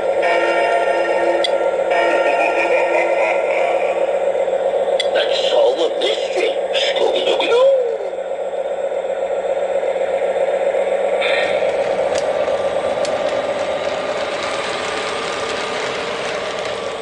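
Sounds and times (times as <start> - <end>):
toy train rumbling on track: 0.0 - 17.0.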